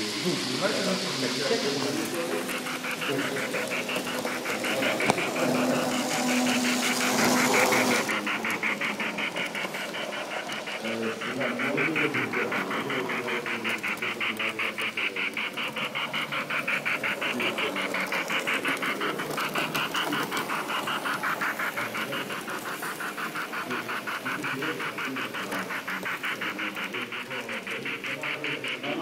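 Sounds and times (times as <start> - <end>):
model train running on track: 0.0 - 29.0
murmur of voices: 0.0 - 29.0
rapid even pulsing: 0.0 - 29.0.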